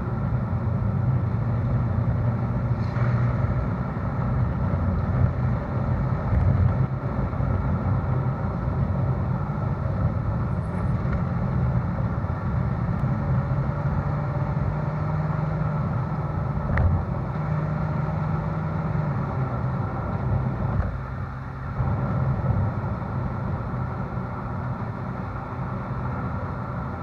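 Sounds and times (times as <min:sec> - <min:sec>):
car exhaust cruising: 0:00.0 - 0:27.0.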